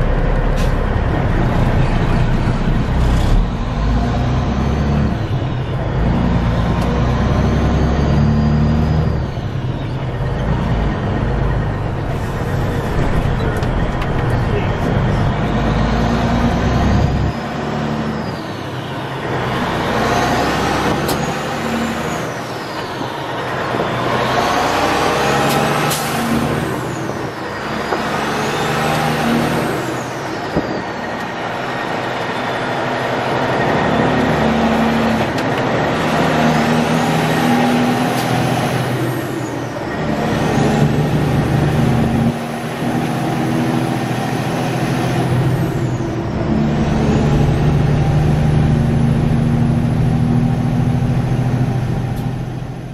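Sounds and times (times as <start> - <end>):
diesel truck engine pulling: 0.0 - 52.9.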